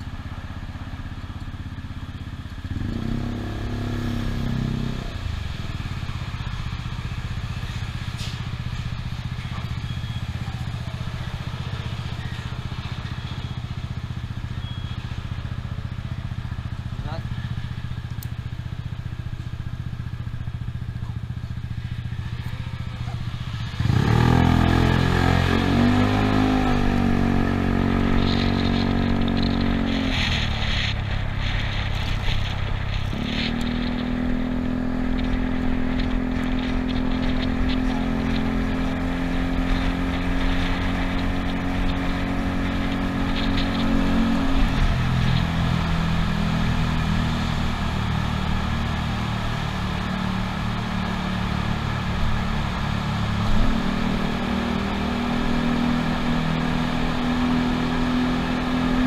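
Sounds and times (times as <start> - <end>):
scooter engine: 0.0 - 59.0.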